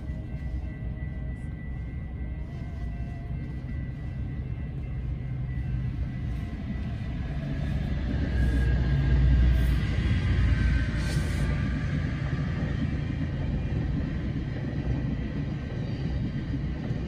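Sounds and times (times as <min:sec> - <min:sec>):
diesel train passing rumble: 0:00.0 - 0:17.0.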